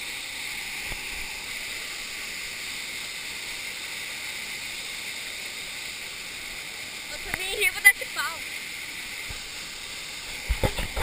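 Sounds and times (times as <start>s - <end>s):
small waterfall pouring into pool: 0.0s - 11.0s.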